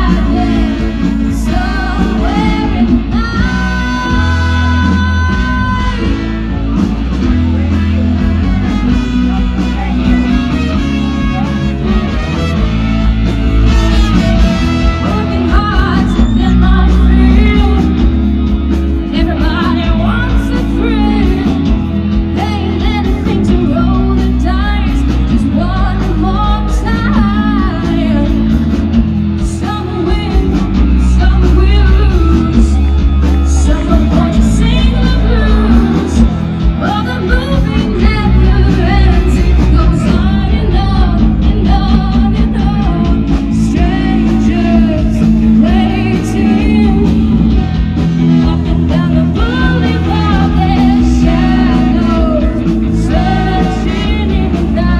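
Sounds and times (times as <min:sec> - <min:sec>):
person singing: 0:00.0 - 0:06.9, 0:14.8 - 0:54.9
electric guitar: 0:00.0 - 0:54.9
heavy bass: 0:00.0 - 0:54.9.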